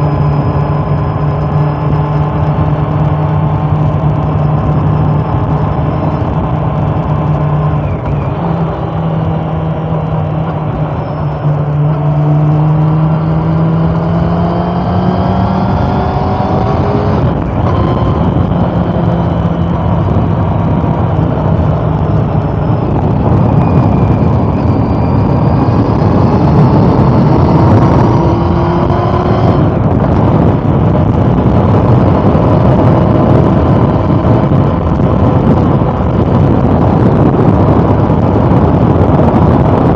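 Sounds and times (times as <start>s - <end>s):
gear change: 0.0s - 39.9s
motorcycle engine accelerating: 0.0s - 39.9s
wind rush on microphone: 0.0s - 39.9s.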